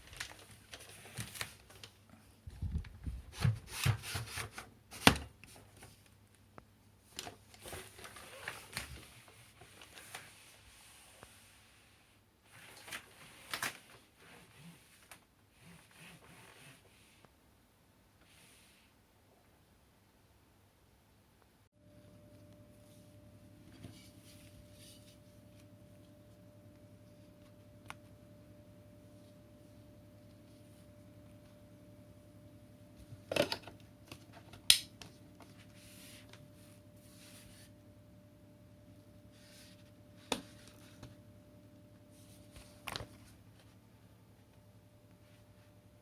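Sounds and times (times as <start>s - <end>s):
faint steady hum: 4.4s - 46.0s.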